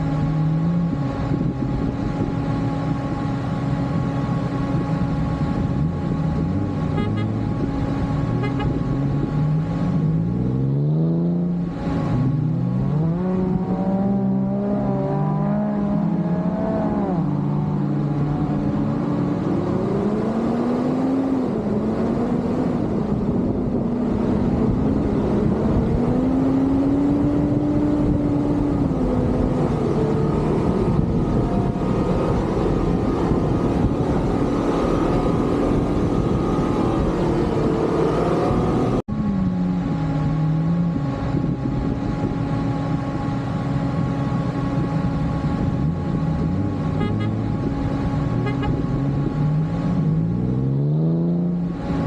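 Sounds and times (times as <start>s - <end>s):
engine revving off-road: 0.0s - 52.0s.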